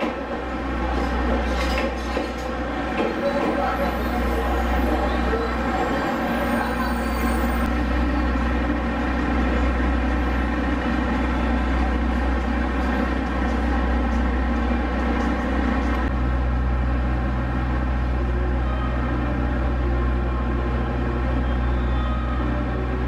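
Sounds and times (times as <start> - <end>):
diesel railcar engine idling: 0.0 - 23.0.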